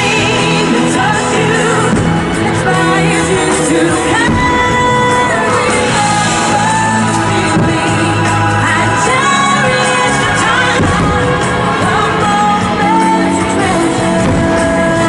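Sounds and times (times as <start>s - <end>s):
pop music with singing: 0.0s - 15.0s.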